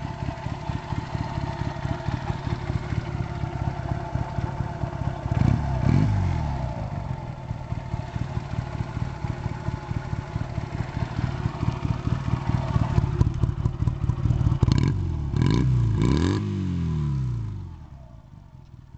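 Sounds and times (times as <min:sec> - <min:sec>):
motorcycle engine idling: 0:00.0 - 0:16.0, 0:17.1 - 0:18.9
motorcycle engine revving: 0:00.0 - 0:18.4.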